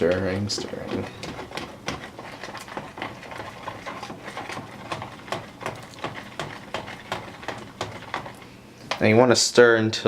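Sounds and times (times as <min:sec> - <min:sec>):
spoon stirring batter in bowl: 0:00.0 - 0:09.3.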